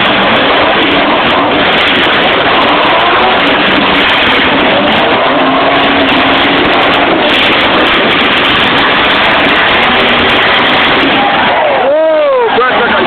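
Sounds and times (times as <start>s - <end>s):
vehicle engines revving loudly: 0.0s - 13.0s.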